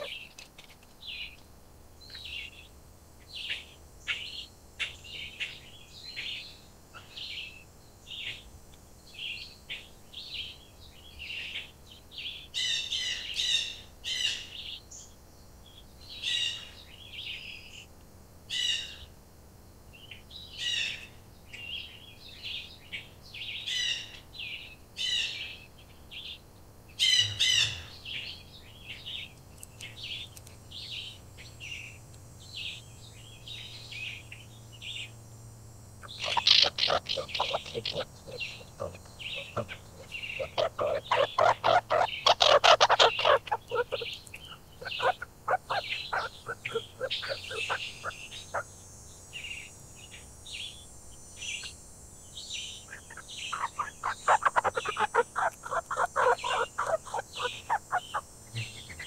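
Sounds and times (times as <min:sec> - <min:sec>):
birds chirping: 0:00.0 - 0:01.4, 0:02.0 - 0:15.1, 0:20.0 - 0:35.2, 0:35.8 - 0:59.0
loud bird calls: 0:00.0 - 0:01.4, 0:02.1 - 0:08.5, 0:09.2 - 0:14.9, 0:15.7 - 0:17.9, 0:18.5 - 0:19.1, 0:20.1 - 0:35.2, 0:36.0 - 0:50.8, 0:51.4 - 0:59.0.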